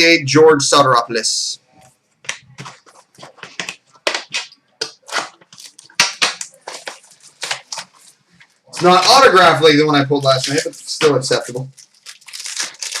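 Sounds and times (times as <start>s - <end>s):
cards and packaging clicking and rustling: 2.3s - 13.0s.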